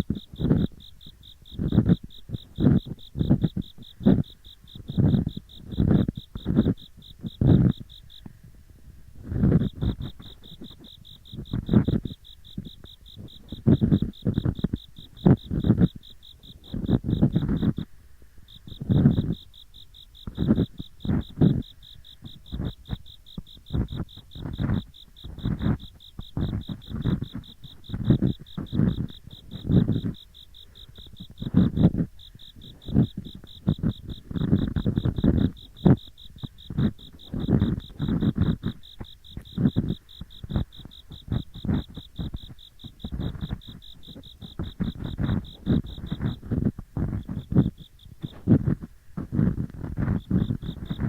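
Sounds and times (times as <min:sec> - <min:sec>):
ear picks scraping microphone: 0:00.0 - 0:08.3, 0:08.9 - 0:19.6, 0:20.2 - 0:51.0
insects chirping: 0:00.0 - 0:51.0.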